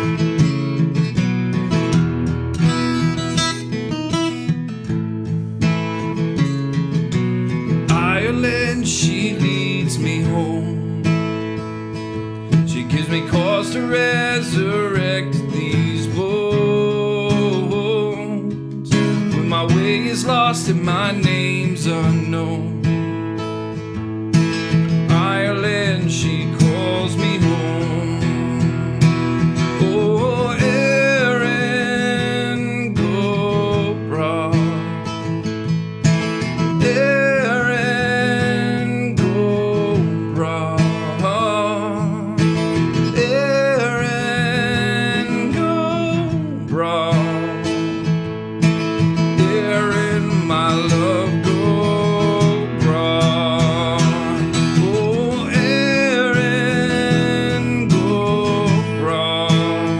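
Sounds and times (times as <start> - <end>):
acoustic guitar strumming: 0.0 - 59.9
man singing: 7.7 - 23.5, 24.5 - 35.5, 36.2 - 59.9.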